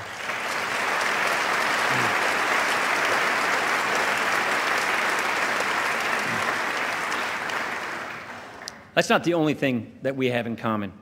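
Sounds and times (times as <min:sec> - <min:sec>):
large audience applauding: 0:00.0 - 0:08.8.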